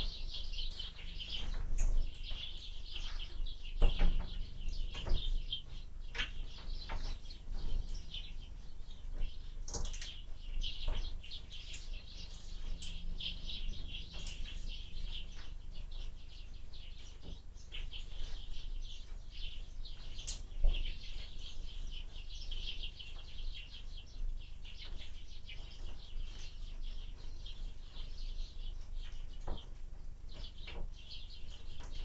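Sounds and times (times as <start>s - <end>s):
low rumble of wind: 0.0s - 32.0s
small birds chirping: 0.0s - 32.0s.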